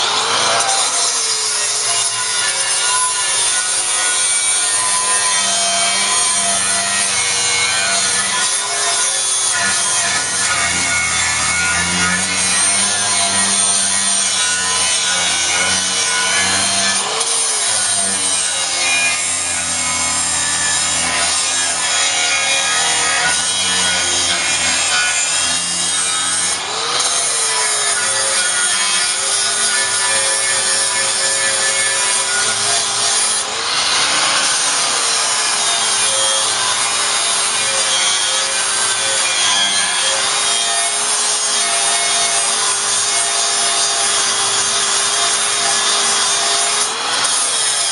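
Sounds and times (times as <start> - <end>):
angle grinder grinding steel: 0.0 - 47.9.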